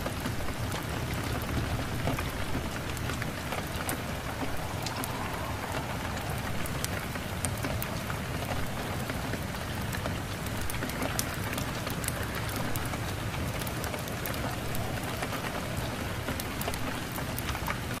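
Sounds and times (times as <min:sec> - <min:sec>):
rain drops ticking: 0:00.0 - 0:18.0.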